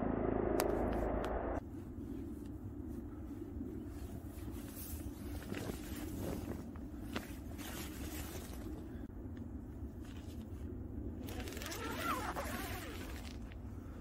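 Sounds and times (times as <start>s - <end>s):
low background rumble: 0.0s - 14.0s
tent fabric and sleeping bag rustling: 1.6s - 9.1s, 9.8s - 14.0s.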